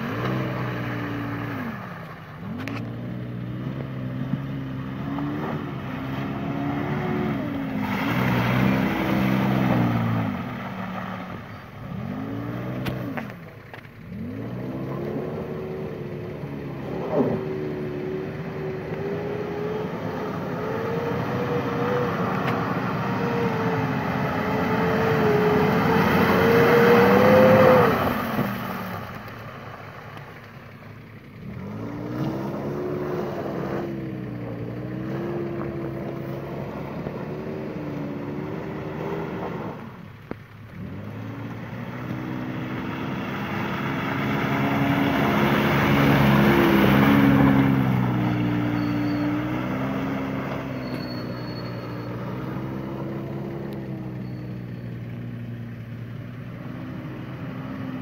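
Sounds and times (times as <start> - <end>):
engine revving unevenly: 0.0 - 58.0.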